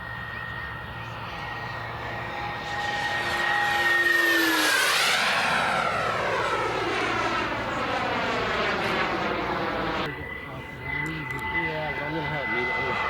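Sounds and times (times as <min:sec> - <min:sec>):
model airplane engine passing: 0:00.0 - 0:13.0.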